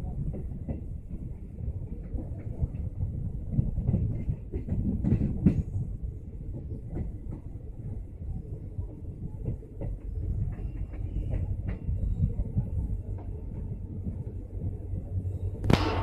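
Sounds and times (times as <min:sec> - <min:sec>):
rail joint clicks and clatter: 0:00.0 - 0:16.0
train wheels rumbling on rails: 0:00.0 - 0:16.0.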